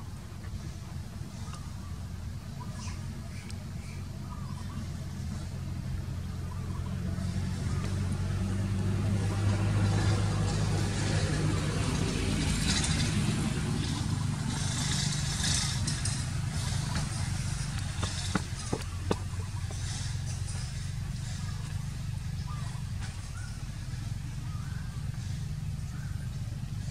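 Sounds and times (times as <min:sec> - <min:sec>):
vehicle engine humming: 0:00.0 - 0:26.9.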